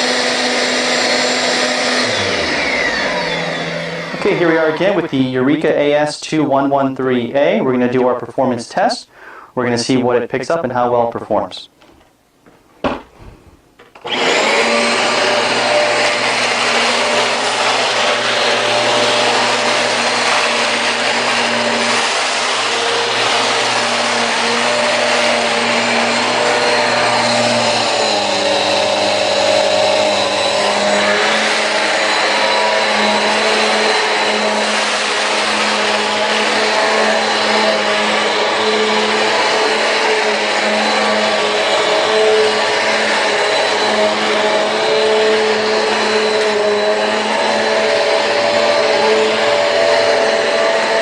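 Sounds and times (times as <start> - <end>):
vacuum cleaner running: 0.0 - 6.1, 13.8 - 51.0.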